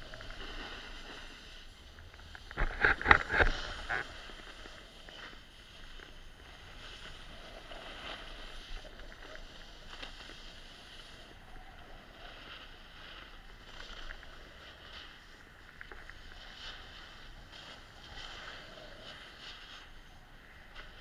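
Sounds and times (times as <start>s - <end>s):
snowboard scraping over snow: 0.0s - 21.0s.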